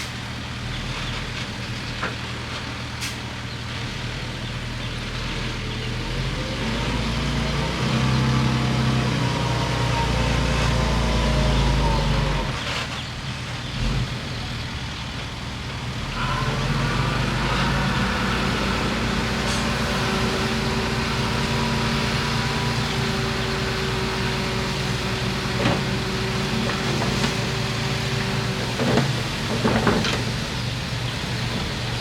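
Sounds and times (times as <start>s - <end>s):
bulldozer diesel engine: 0.0s - 32.0s.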